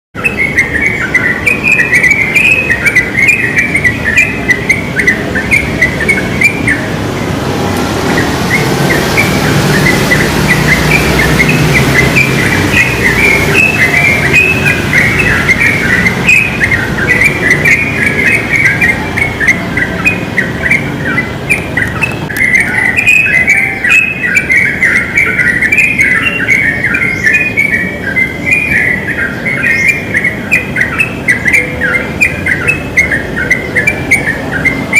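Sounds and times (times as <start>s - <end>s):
birds singing chirping notes: 0.2s - 34.9s.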